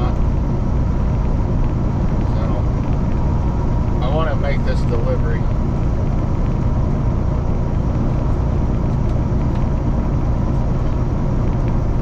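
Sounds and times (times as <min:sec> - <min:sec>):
truck cab road drone: 0:00.0 - 0:12.0.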